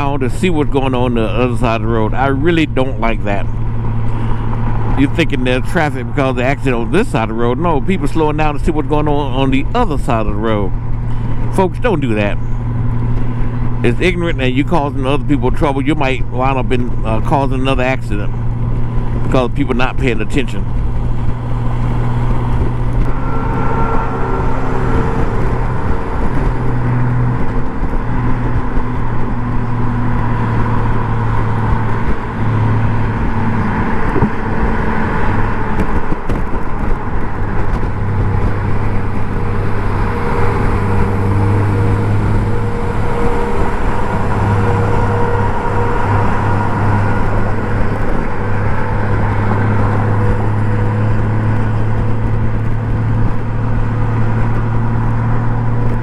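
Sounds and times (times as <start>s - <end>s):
motorcycle engine humming: 0.0s - 56.0s
wind and road noise: 0.0s - 56.0s.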